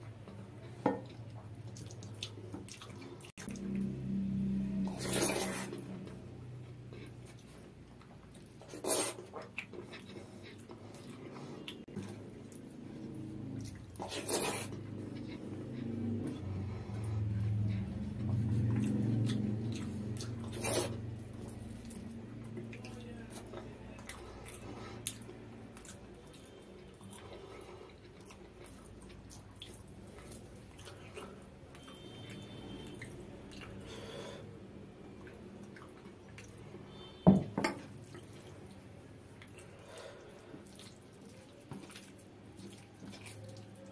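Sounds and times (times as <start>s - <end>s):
chewing with wet mouth sounds: 0.0s - 37.2s, 37.8s - 43.9s.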